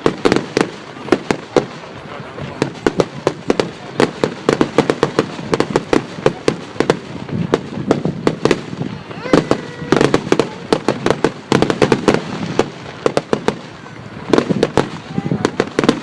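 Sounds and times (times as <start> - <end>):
fireworks banging and crackling: 0.0 - 16.0.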